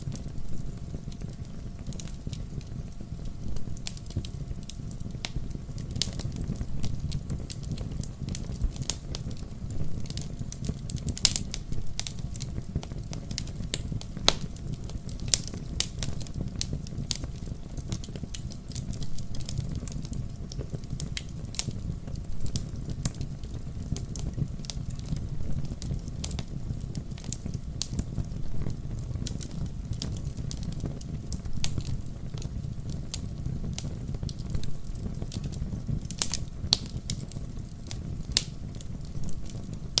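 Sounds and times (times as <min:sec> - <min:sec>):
fire flame rumble: 0:00.0 - 0:40.0
wood crackling and popping: 0:00.0 - 0:40.0.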